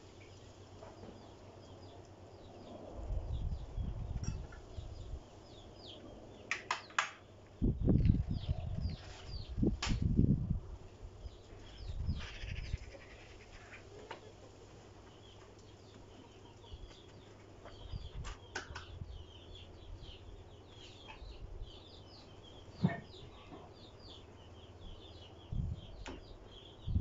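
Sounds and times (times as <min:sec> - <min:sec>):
small birds chirping: 0:00.0 - 0:10.2, 0:11.1 - 0:27.0.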